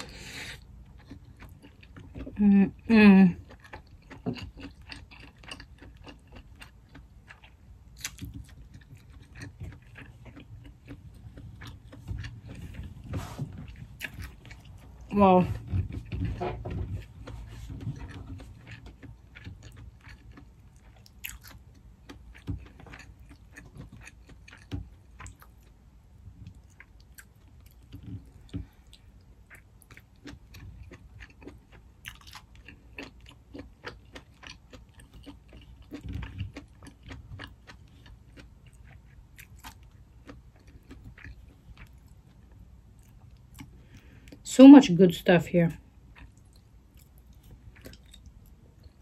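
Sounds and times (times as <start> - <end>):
chewing with wet clicks: 0.6 - 2.4, 3.3 - 15.1, 17.0 - 44.4, 45.8 - 49.0.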